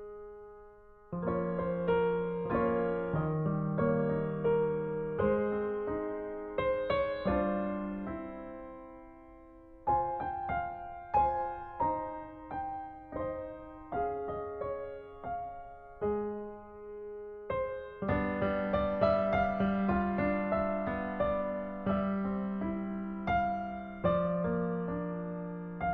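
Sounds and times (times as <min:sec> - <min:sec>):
soft piano melody: 0:00.0 - 0:25.9.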